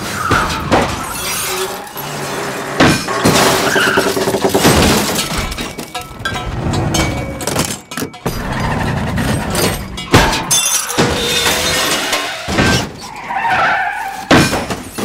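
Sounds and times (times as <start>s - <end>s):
crunching metal impacts: 0.0s - 15.0s
engine and road noise: 0.0s - 15.0s
breaking glass: 0.1s - 6.4s, 7.0s - 13.1s
metal scraping: 0.1s - 15.0s.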